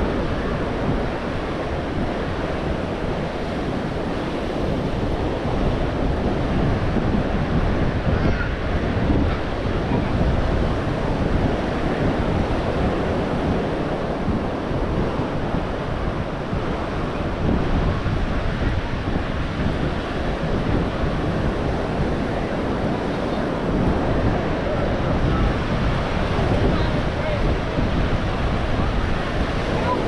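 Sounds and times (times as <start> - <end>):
ocean surf washing on beach: 0.0 - 30.0
wind buffeting microphone: 0.0 - 30.0.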